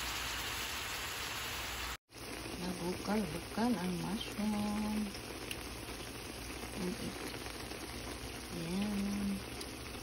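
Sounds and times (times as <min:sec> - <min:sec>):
mushrooms and onions bubbling: 0:01.8 - 0:10.0.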